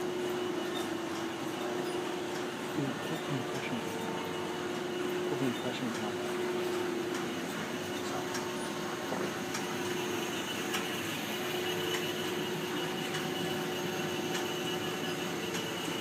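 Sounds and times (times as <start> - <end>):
printing machinery hum: 0.0 - 16.0.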